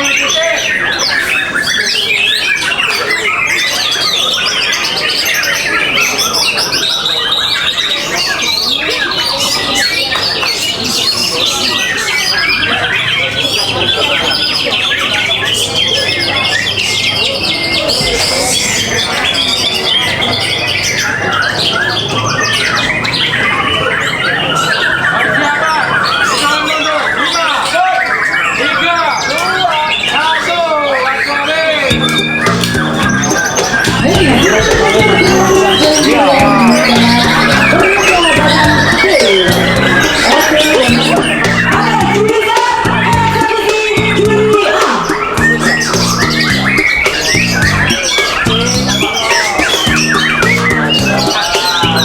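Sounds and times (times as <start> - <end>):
songbird chorus: 0.0 - 52.0.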